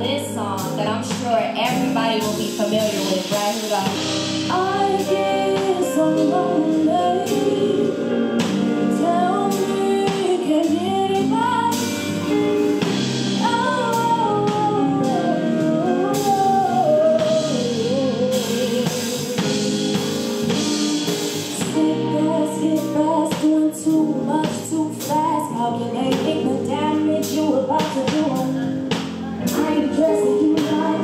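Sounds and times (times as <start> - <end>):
woman singing: 0.0 - 19.7, 21.5 - 31.0
bass guitar: 0.0 - 31.0
drum kit: 0.0 - 31.0
electric guitar: 0.0 - 31.0
keyboard: 0.0 - 31.0.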